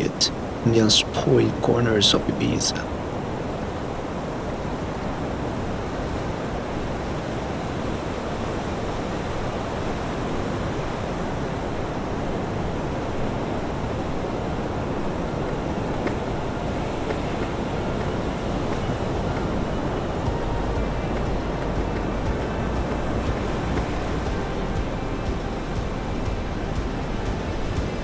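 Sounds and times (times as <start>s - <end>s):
wind: 0.0s - 28.0s.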